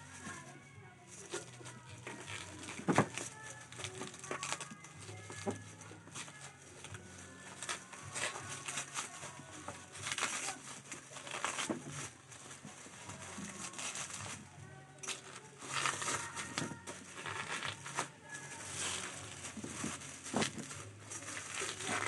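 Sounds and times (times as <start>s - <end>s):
plastic packaging crinkling: 0.0s - 22.0s
packaging tearing: 1.3s - 14.4s, 15.0s - 22.0s.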